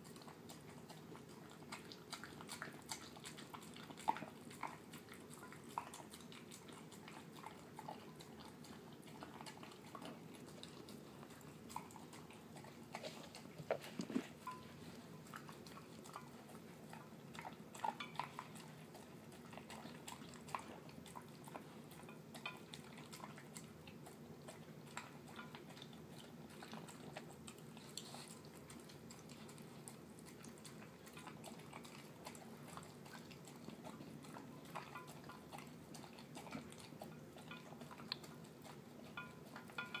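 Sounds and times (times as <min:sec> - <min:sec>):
dog chewing wet food: 0:00.0 - 0:40.0
dog licking: 0:00.0 - 0:40.0.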